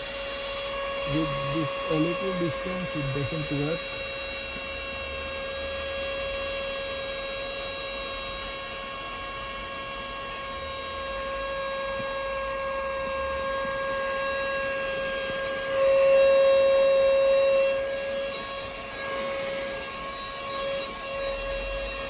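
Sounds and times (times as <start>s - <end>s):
mini vacuum cleaner whine: 0.0s - 22.0s.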